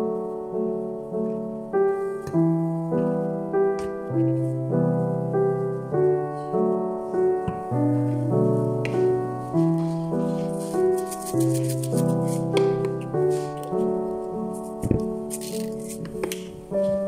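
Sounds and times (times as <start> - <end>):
gentle slow piano tune: 0.0 - 17.0.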